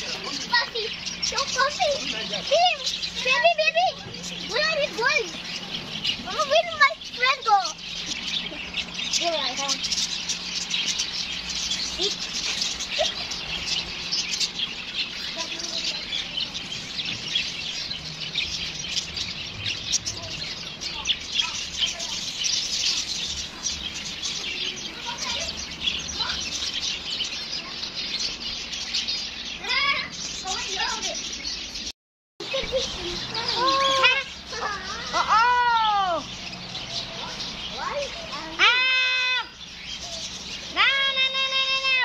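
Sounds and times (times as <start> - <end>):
small birds chirping and twittering: 0.0 - 42.0.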